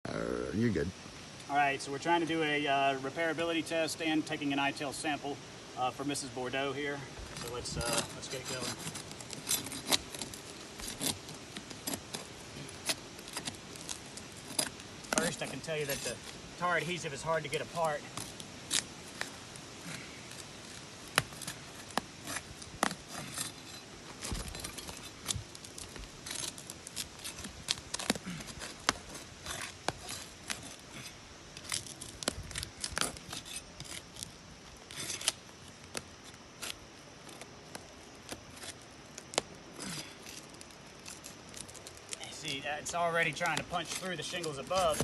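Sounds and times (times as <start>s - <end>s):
roof shingles cracking and tearing: 7.2s - 45.0s.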